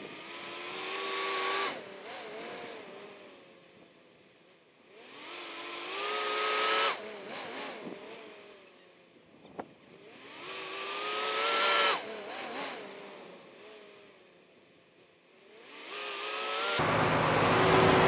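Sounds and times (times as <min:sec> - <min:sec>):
engine revving: 0:00.0 - 0:03.6, 0:04.8 - 0:08.8, 0:09.4 - 0:14.3, 0:15.4 - 0:18.0.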